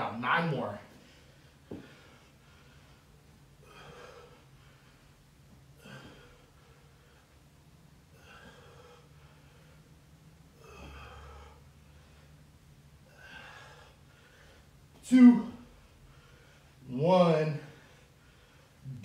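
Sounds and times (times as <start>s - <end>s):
low steady hum: 0.0s - 19.0s
man breathing heavily: 0.9s - 19.0s.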